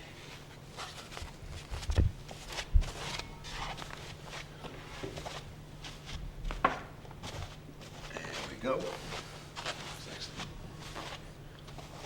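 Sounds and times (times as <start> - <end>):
rustling: 0.2 - 6.6, 7.2 - 12.0.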